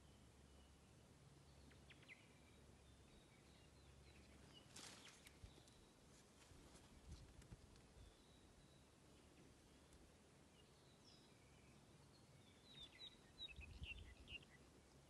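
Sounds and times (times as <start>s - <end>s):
faint bird chirps: 0.0s - 6.2s, 6.8s - 15.0s.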